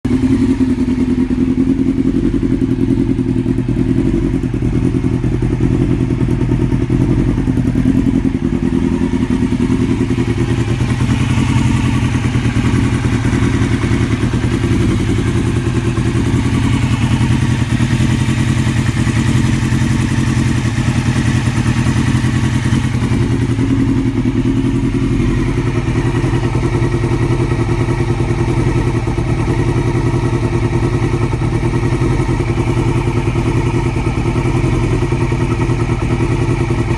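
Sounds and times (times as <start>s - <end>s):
engine ticking: 0.0s - 36.9s
motorcycle engine idling: 0.0s - 36.9s.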